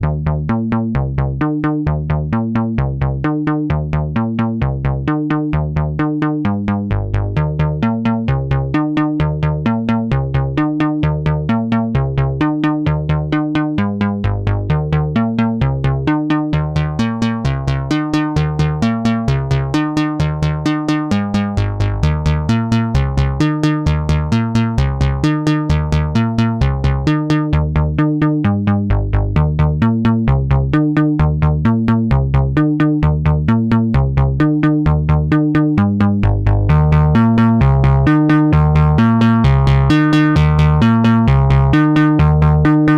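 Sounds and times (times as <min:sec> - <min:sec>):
synthesizer sequenced bass line: 0:00.0 - 0:42.9.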